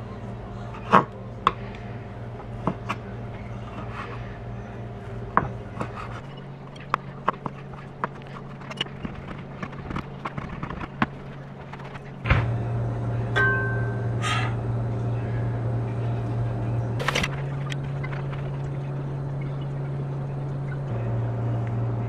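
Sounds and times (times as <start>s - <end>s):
low appliance hum: 0.0s - 22.0s.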